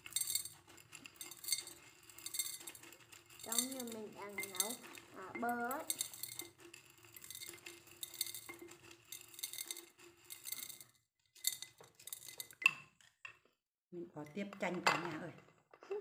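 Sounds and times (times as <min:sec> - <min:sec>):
rock sugar clattering into glass jar: 0:00.0 - 0:12.8.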